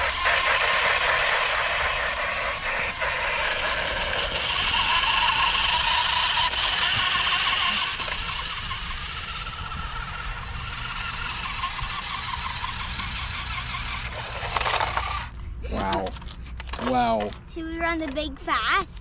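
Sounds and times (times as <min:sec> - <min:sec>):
toy tyres rolling on concrete: 0:00.0 - 0:15.3
small electric motor whining: 0:00.0 - 0:15.4.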